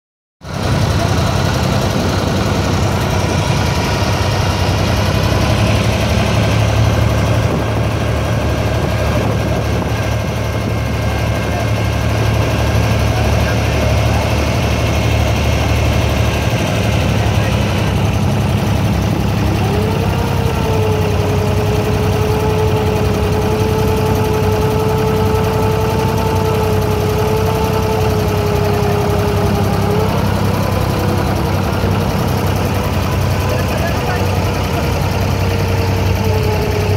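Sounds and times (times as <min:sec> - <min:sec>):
diesel boat engine idling: 0:00.4 - 0:36.9
steady whine: 0:00.5 - 0:36.9.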